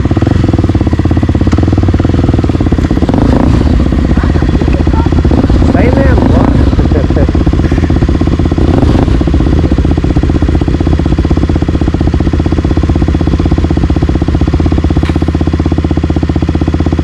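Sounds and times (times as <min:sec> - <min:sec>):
dirt bike engine idling: 0:00.0 - 0:17.0.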